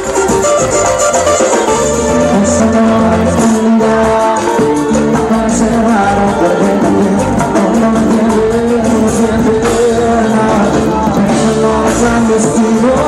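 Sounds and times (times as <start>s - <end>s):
drum and percussion beat: 0.0s - 13.0s
live band playing: 0.0s - 13.0s.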